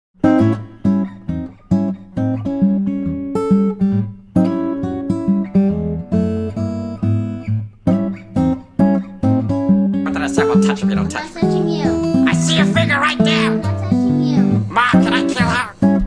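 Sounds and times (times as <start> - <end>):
acoustic guitar music: 0.2 - 16.0.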